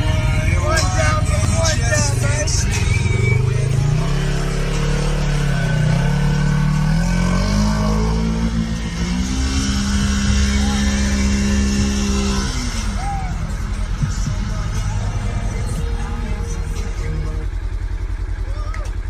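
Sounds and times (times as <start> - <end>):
engine revving under load: 0.0 - 17.7.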